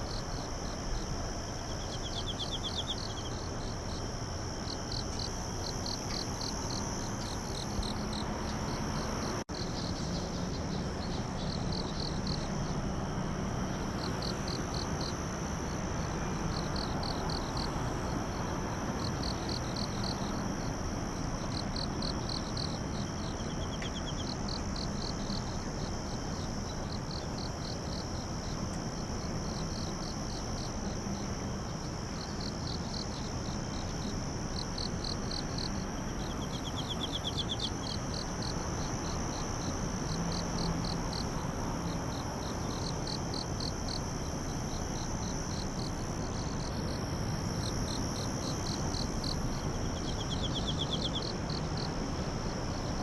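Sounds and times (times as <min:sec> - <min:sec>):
constant hiss: 0:00.0 - 0:53.0
crickets chirping: 0:00.0 - 0:53.0
high-pitched insect trill: 0:00.0 - 0:53.0.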